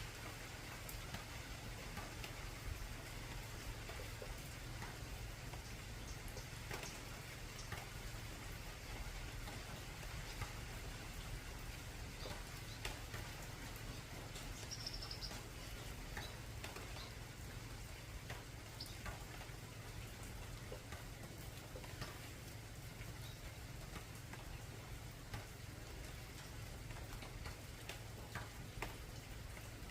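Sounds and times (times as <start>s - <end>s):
rain on a metal roof: 0.0s - 29.9s.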